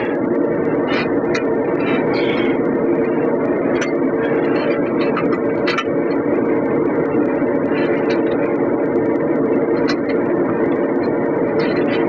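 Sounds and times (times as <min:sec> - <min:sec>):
machine droning: 0:00.0 - 0:12.0.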